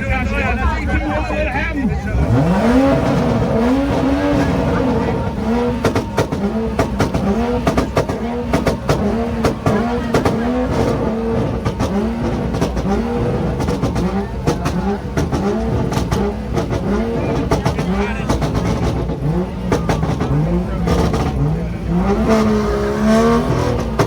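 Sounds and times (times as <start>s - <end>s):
car engine revving against limiter: 0.0s - 24.0s
exhaust pops and bangs: 0.0s - 24.0s.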